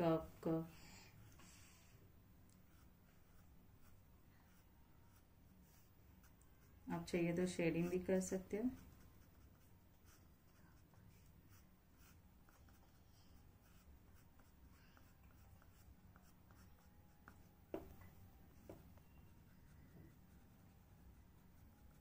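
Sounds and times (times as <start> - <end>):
pencil scratching on paper: 2.7 - 17.9, 18.5 - 22.0.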